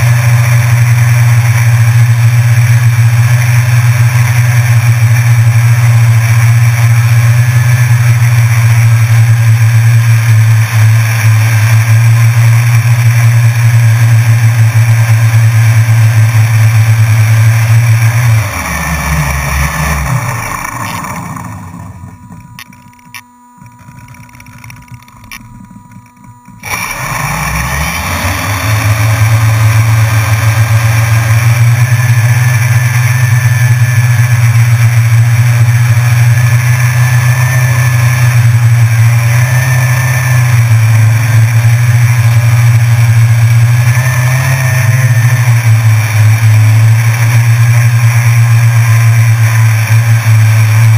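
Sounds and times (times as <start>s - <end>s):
drone motors and propellers: 0.0s - 50.9s.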